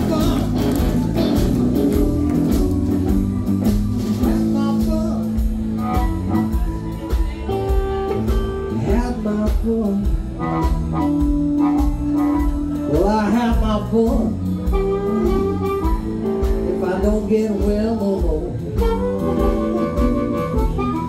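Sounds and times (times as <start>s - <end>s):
bass guitar: 0.0s - 21.0s
drums: 0.0s - 21.0s
electric guitars: 0.0s - 21.0s.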